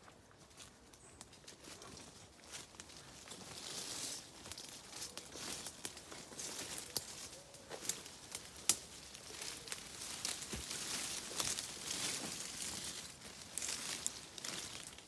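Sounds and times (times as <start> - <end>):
twigs and leaves crackling underfoot: 0.0 - 15.0.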